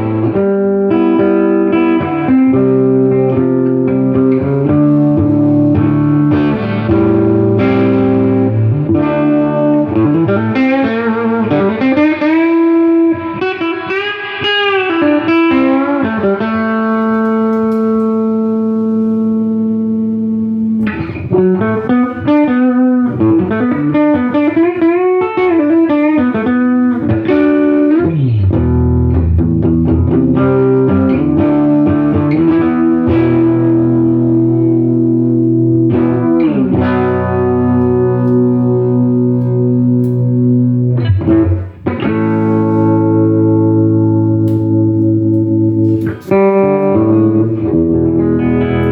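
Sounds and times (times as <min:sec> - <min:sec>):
electric guitar with reverb: 0:00.0 - 0:48.9.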